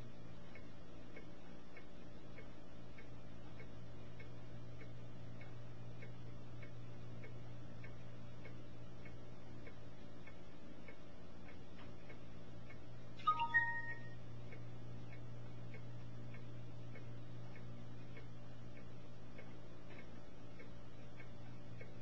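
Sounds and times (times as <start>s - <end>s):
clock ticking: 0.0s - 22.0s
low steady hum: 0.0s - 22.0s.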